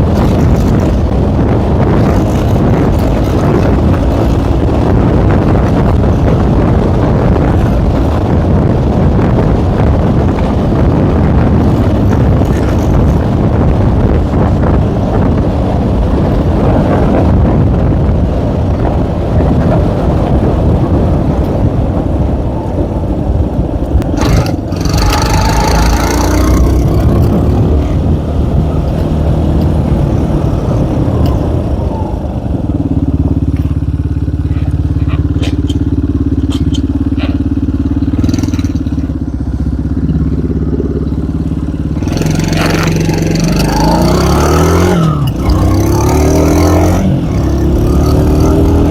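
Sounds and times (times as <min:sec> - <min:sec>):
moped engine running: 0:00.0 - 0:48.9
wind buffeting microphone: 0:00.0 - 0:48.9.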